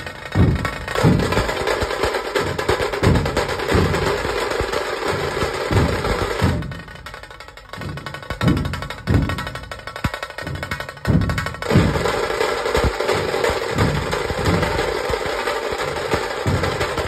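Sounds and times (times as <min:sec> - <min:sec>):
deep dhol drum beats: 0:00.0 - 0:17.0
tasha drums rolling: 0:00.0 - 0:17.0.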